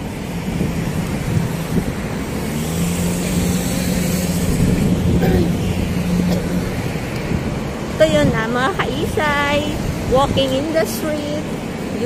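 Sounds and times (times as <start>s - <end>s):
vehicles passing: 0.0s - 12.0s
wind rumbling on microphone: 0.0s - 12.0s.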